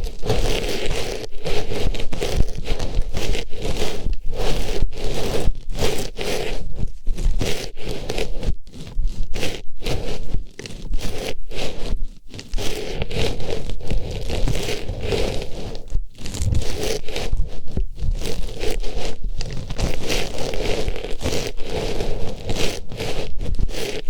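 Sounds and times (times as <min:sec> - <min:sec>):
artificial flower rustling and scraping: 0:00.0 - 0:24.0.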